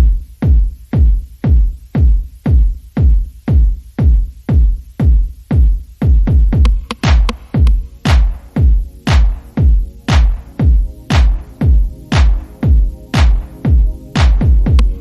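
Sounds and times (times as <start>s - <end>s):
electronic music: 0.0s - 15.0s
heavy kick drum: 0.0s - 15.0s.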